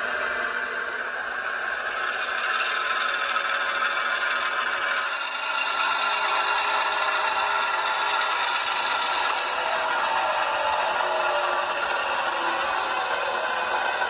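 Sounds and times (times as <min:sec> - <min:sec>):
diesel engine sound from small speaker: 0:00.0 - 0:14.0
model train wheels rattling: 0:00.0 - 0:14.0.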